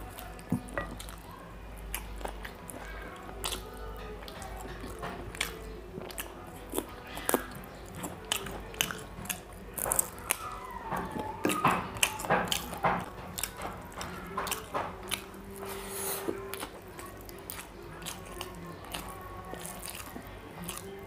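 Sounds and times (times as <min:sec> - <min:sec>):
chewing: 0:00.0 - 0:21.0.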